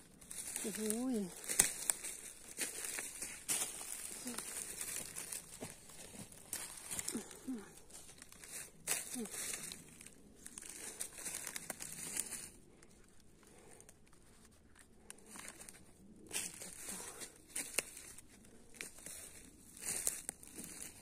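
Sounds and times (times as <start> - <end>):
dry leaves rustling: 0.0 - 12.8, 15.1 - 21.0.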